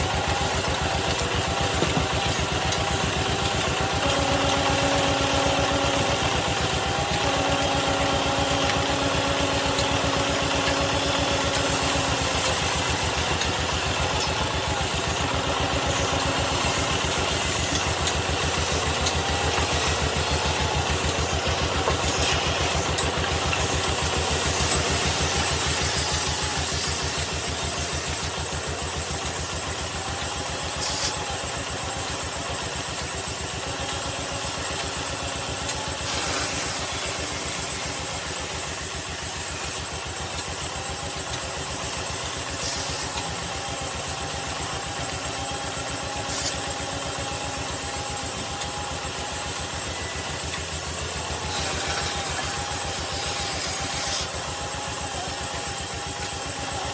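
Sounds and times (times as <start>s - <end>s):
wood lathe motor humming: 0.0s - 56.9s.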